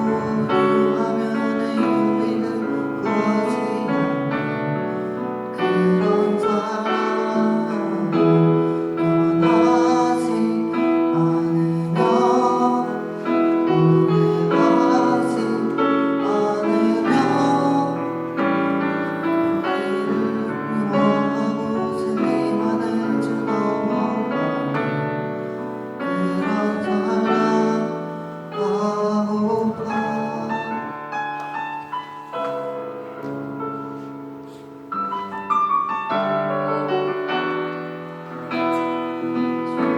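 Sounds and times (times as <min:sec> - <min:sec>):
piano accompaniment: 0:00.0 - 0:39.9.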